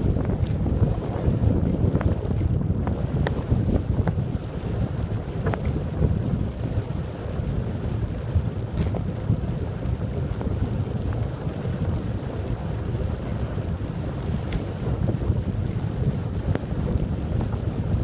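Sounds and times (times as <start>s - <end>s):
tyre rumble on asphalt: 0.0s - 18.0s
wind buffeting microphone: 0.0s - 18.0s.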